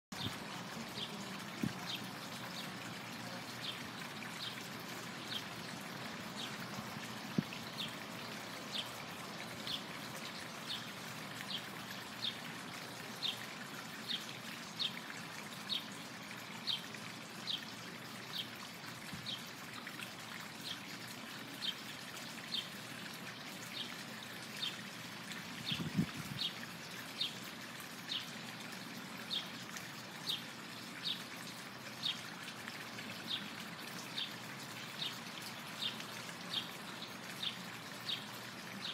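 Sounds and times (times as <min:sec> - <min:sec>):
water trickling: 0:00.1 - 0:38.9.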